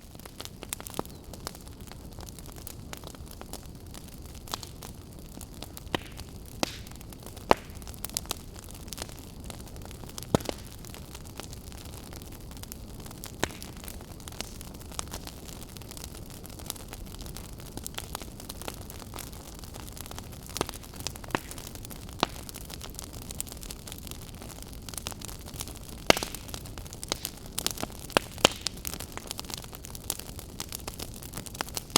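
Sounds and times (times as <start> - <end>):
sharp fire pops: 0.0 - 11.9, 12.6 - 16.8, 17.8 - 23.9, 24.5 - 31.9
campfire crackling: 0.0 - 31.9.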